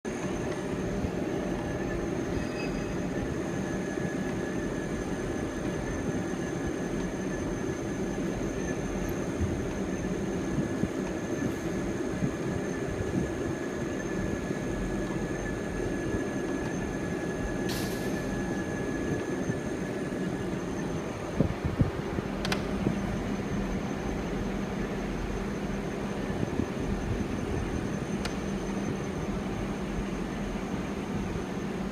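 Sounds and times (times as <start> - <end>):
high machine whine: 0.0 - 31.9.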